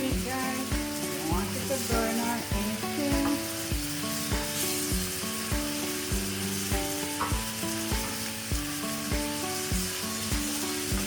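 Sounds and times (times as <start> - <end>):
background music with thumping beat: 0.0 - 11.0
meat sizzling in butter: 0.0 - 11.0.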